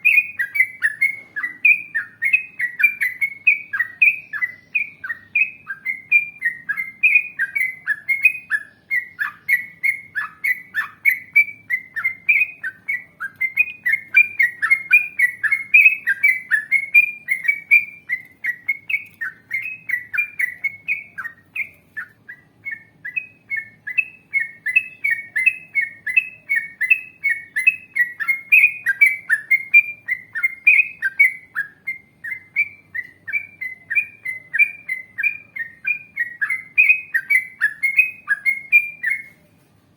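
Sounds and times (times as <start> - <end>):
bird singing bubbly whistled notes: 0.0 - 39.5.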